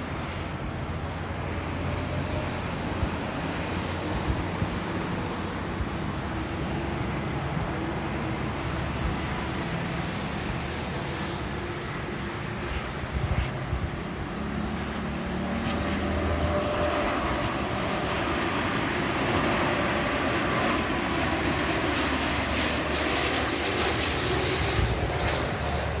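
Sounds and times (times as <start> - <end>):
jet engines droning: 0.0 - 26.0.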